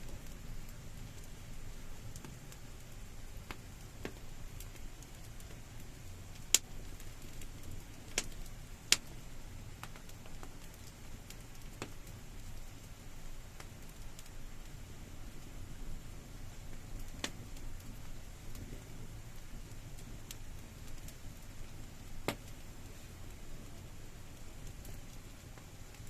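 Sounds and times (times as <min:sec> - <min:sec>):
campfire crackling: 0:00.0 - 0:26.0
low steady rumble: 0:00.0 - 0:26.0
sharp fire pops: 0:00.0 - 0:26.0.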